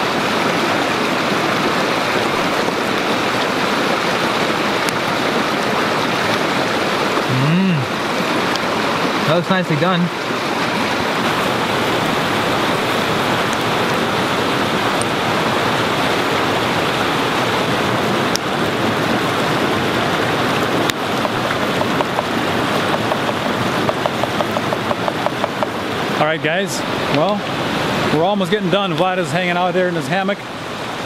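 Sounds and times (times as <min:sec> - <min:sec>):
creek rushing: 0:00.0 - 0:31.0.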